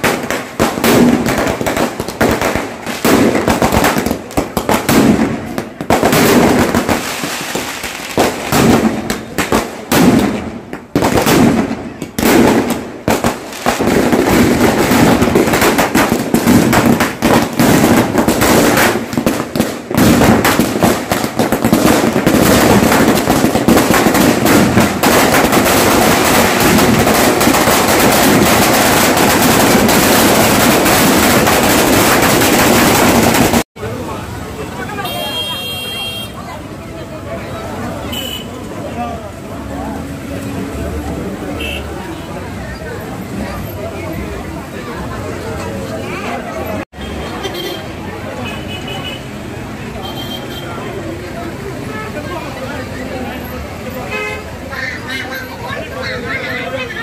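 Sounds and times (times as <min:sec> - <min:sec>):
firecrackers banging: 0:00.0 - 0:57.0.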